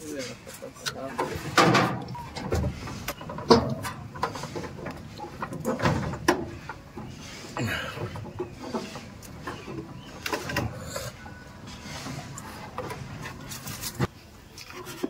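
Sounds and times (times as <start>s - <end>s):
chickens clucking: 0.1s - 14.1s.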